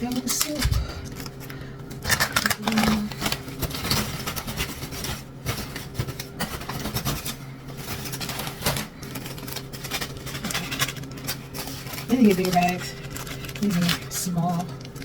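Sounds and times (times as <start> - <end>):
plastic bags rustling: 0.0 - 15.0
steady low hum: 0.0 - 15.0.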